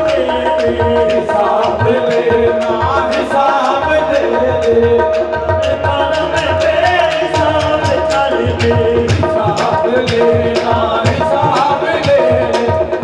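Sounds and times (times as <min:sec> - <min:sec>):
harmonium: 0:00.0 - 0:13.0
men singing: 0:00.0 - 0:13.0
tabla drum strokes: 0:00.0 - 0:13.0.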